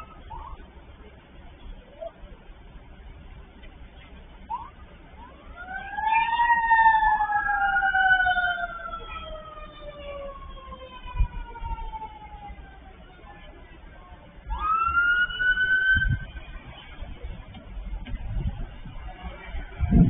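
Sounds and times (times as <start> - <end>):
police sirens wailing: 0.0 - 0.8, 4.4 - 20.0.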